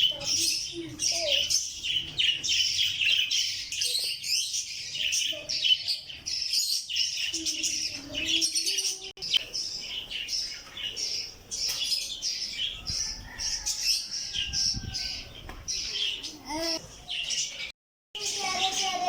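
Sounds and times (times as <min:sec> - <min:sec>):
parrots chirping and chattering: 0:00.0 - 0:19.0.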